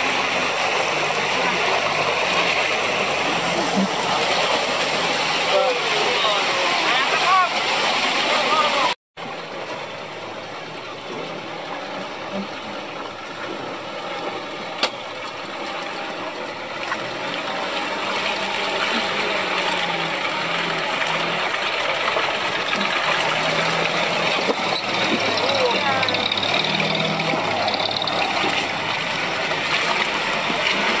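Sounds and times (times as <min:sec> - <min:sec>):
off-road vehicle engine running: 0:00.0 - 0:31.0.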